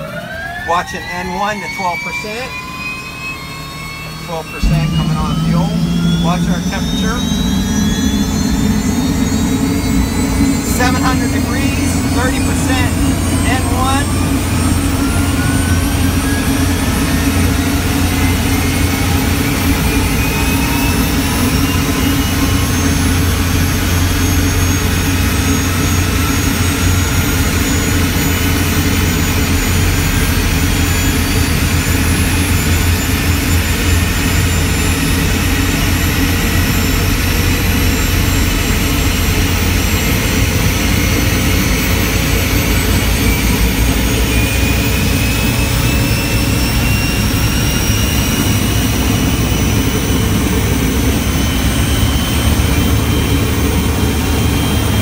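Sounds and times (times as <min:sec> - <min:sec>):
helicopter turbine whine: 0:00.0 - 0:55.0
low engine rumble: 0:00.1 - 0:55.0.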